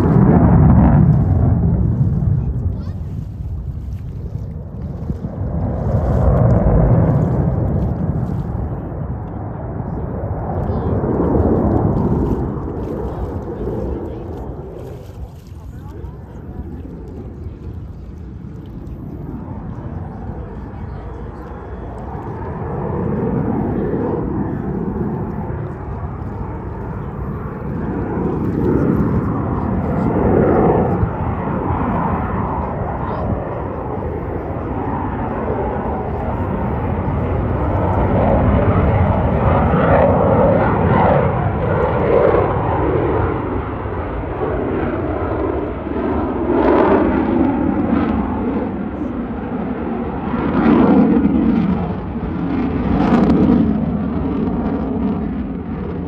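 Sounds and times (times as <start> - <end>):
plane flying over: 0.0 - 56.0.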